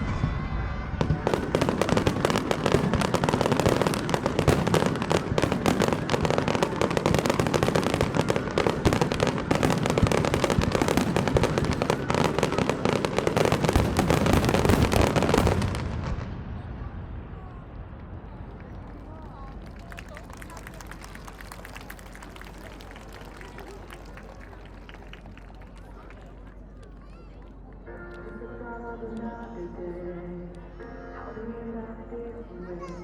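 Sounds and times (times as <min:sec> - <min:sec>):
fireworks bursts and crackle: 0:00.0 - 0:26.4.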